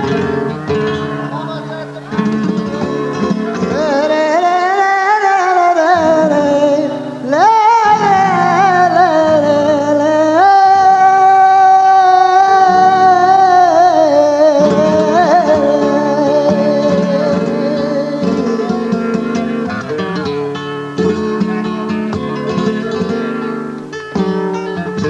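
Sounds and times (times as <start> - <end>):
man singing flamenco: 0.0 - 23.5
flamenco guitar: 0.0 - 25.0.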